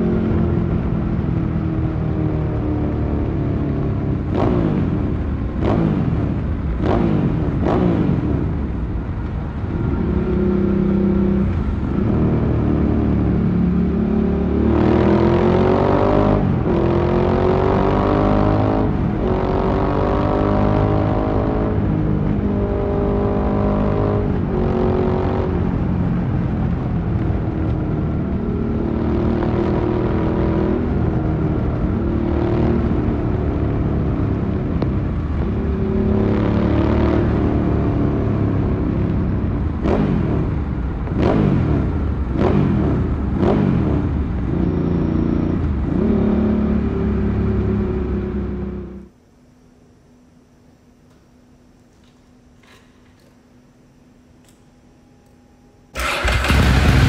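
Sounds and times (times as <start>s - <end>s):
motorcycle engine revving: 0.0s - 8.8s, 9.7s - 26.2s, 27.9s - 49.1s, 56.0s - 57.0s.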